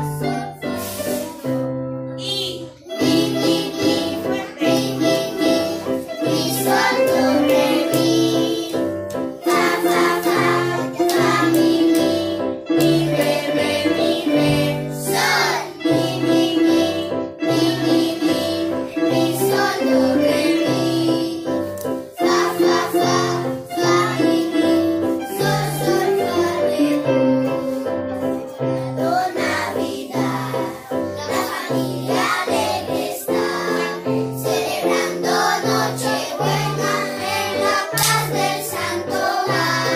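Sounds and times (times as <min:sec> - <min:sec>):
children singing: 0:02.8 - 0:39.9.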